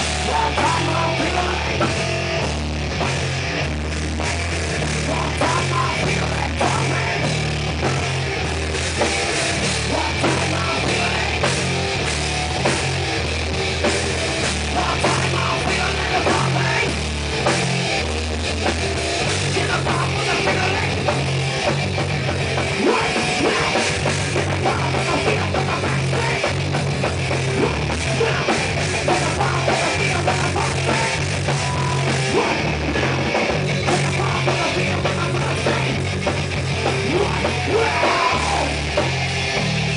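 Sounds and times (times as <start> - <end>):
drum kit: 0.0 - 39.9
electric guitar: 0.0 - 39.9
heavy metal band playing: 0.0 - 39.9.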